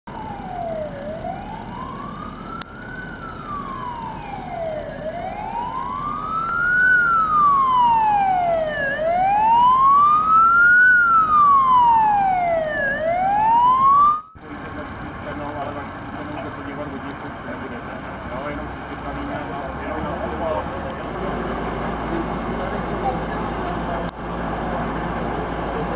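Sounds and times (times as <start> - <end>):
fire engine siren wailing: 0.1 - 25.9.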